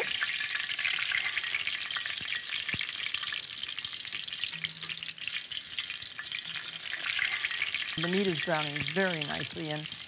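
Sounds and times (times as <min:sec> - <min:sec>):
cutlets sizzling in hot oil: 0:00.0 - 0:10.0.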